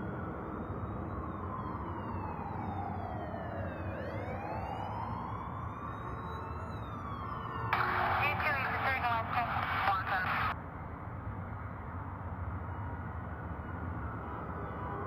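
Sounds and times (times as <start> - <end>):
police siren wailing: 0.0 - 10.6, 12.5 - 15.0.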